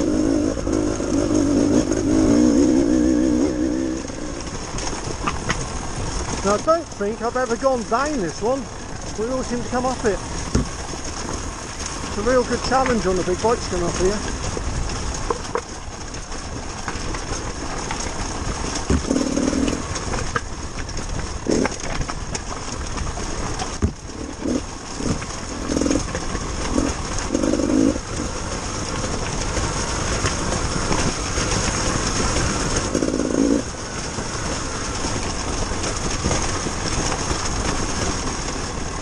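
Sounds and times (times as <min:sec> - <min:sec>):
motorcycle engine revving: 0:00.0 - 0:07.7, 0:08.3 - 0:20.4, 0:21.0 - 0:39.0
bike knocking on stones: 0:03.7 - 0:39.0.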